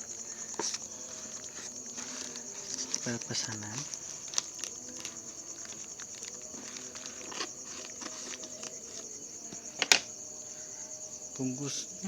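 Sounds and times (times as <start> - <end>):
package being handled: 0.0 - 10.1
insects chirring: 0.0 - 12.0.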